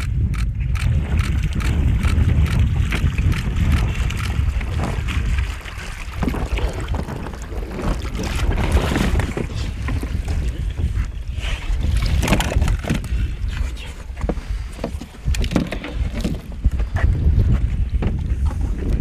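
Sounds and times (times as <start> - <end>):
rumbling of moving water: 0.0 - 19.0.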